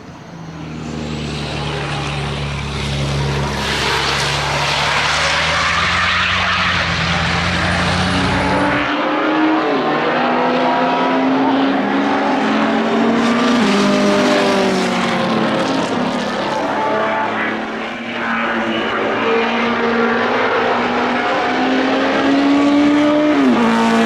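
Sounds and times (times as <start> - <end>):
racing engine revving: 0.4 - 24.0.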